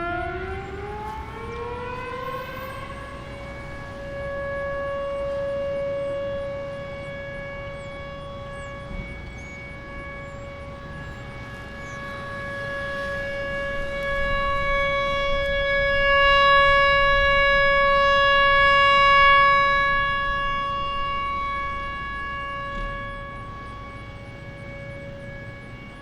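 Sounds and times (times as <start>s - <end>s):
rotating warning siren tone: 0.0s - 26.0s.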